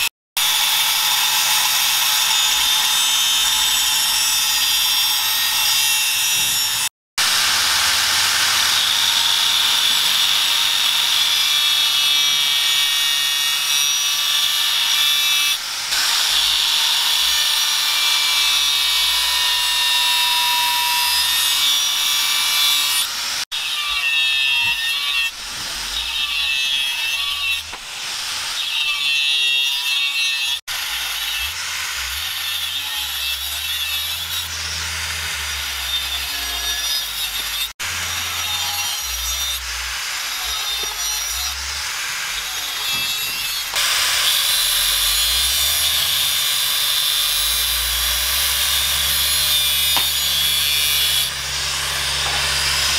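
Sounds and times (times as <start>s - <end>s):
angle grinder grinding steel: 0.0s - 52.9s.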